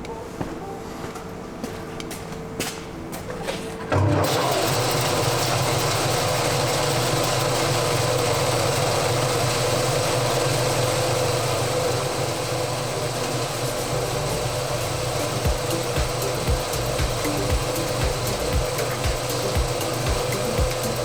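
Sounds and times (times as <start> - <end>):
vibrating sieve machine drone: 3.9 - 21.0.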